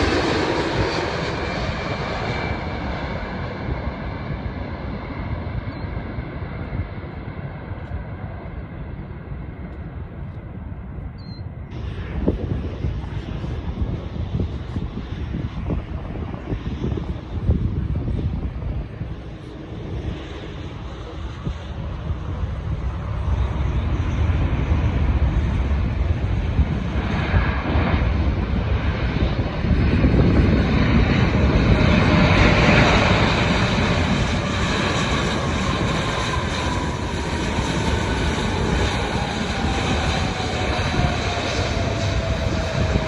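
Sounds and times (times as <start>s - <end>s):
jet engines passing by: 0.0s - 43.0s.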